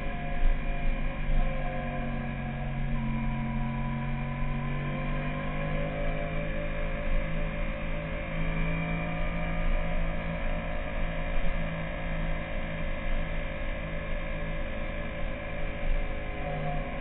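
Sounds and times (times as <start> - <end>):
motorcycle engine drone: 0.0 - 17.0.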